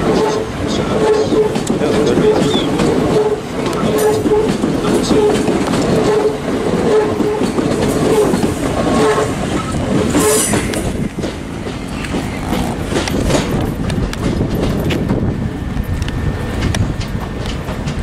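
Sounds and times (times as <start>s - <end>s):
wheels clattering over rail joints: 0.0s - 15.3s, 15.9s - 18.0s
electric train running past: 0.0s - 18.0s.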